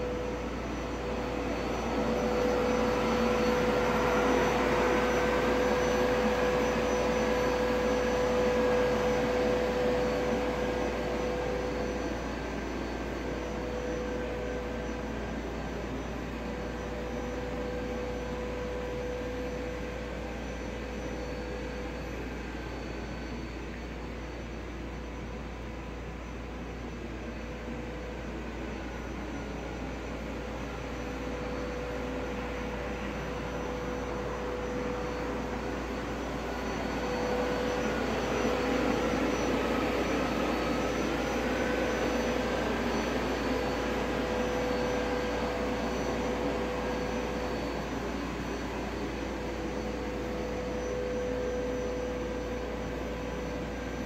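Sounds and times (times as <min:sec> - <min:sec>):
mechanical drone with hum: 0:00.0 - 0:54.0.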